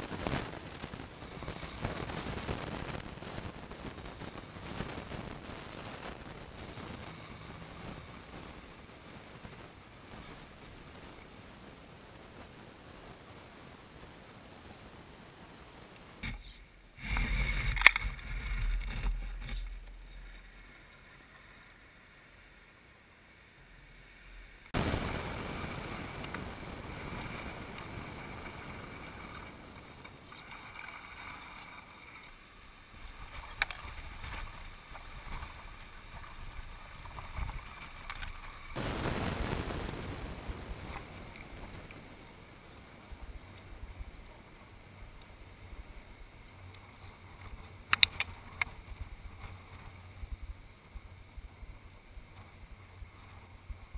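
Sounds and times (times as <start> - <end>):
wind rumbling on microphone: 0.0 - 22.5, 23.7 - 53.9.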